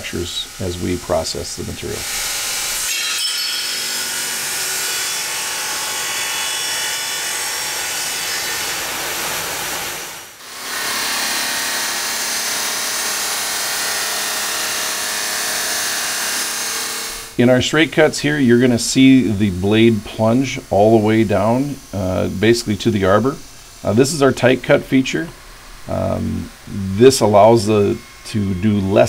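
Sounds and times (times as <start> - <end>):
saw blade wet-cutting stone slab: 0.0 - 29.0.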